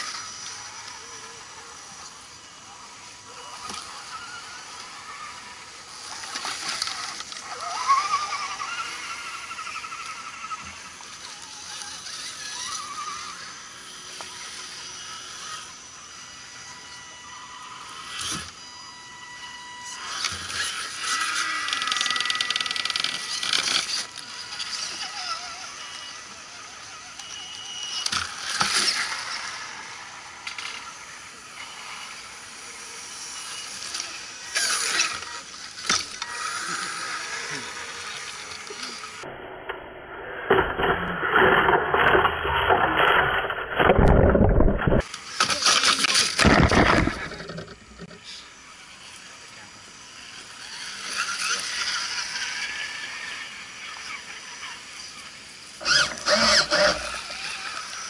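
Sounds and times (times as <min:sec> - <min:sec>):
electric motors whining: 0:00.0 - 0:58.0.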